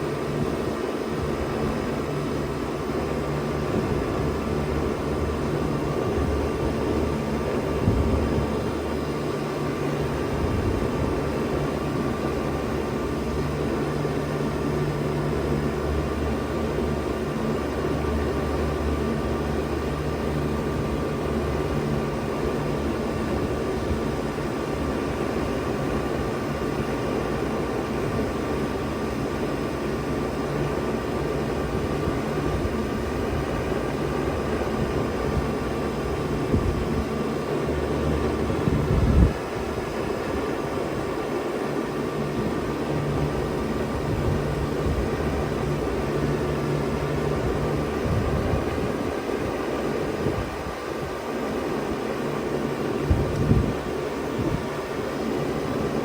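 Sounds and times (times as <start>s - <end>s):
heat pump humming: 0.0s - 56.0s.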